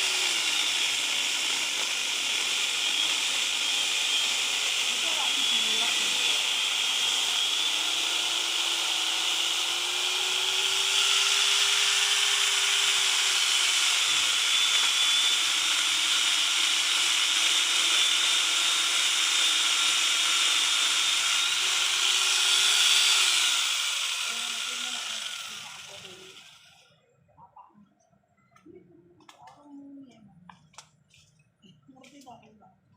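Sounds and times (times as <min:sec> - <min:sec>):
electric chainsaw sawing wood: 0:00.0 - 0:26.8.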